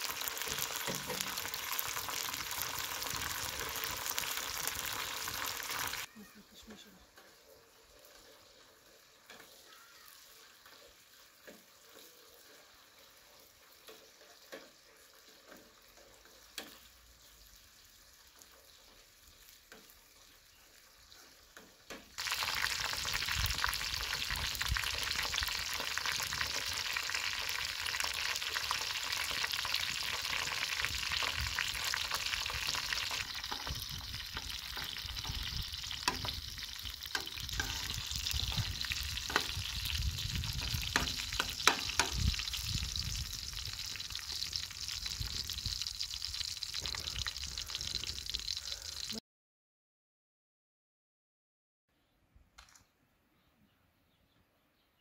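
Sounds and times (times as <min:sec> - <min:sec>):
hot oil sizzling in a pot: 0:00.0 - 0:49.2.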